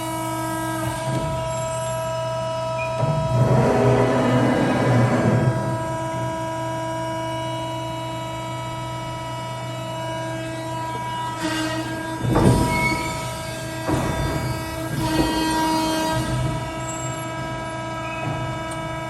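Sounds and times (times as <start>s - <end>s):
hydraulic machine hum: 0.0s - 19.0s.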